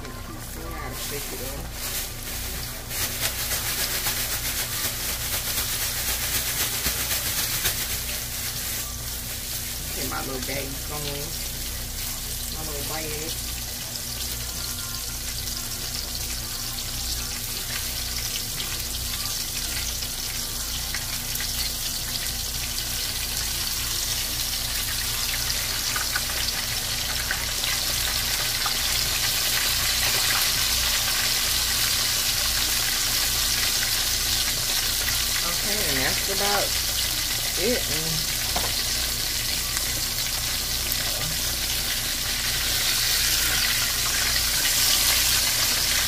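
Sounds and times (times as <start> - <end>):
fish deep-frying in oil: 0.0 - 46.0.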